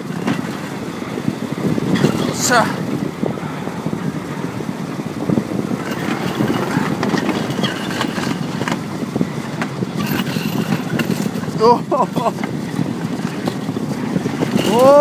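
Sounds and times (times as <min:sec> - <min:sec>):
slide rollers rumbling and rattling: 0:00.0 - 0:15.0.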